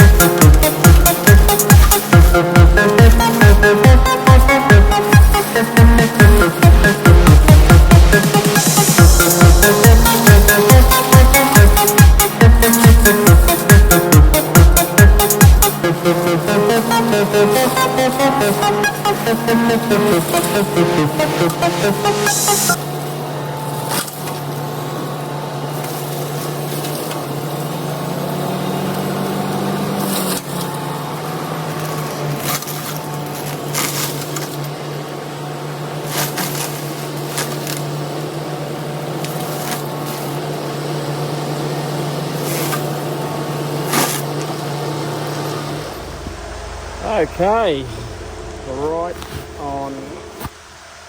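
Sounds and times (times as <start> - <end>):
forestry mulcher humming: 0.0 - 51.0.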